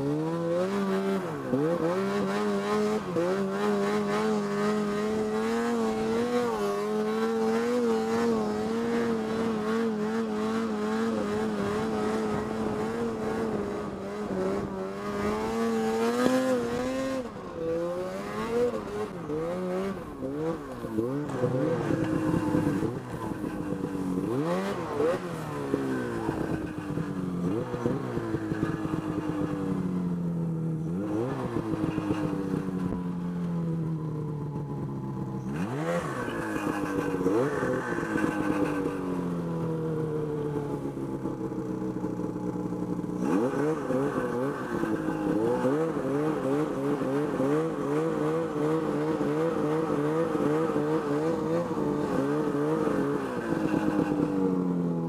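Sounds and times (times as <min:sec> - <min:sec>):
snowmobile engine revving: 0:00.0 - 0:30.0, 0:30.8 - 0:33.0, 0:34.9 - 0:40.4, 0:42.7 - 0:54.5.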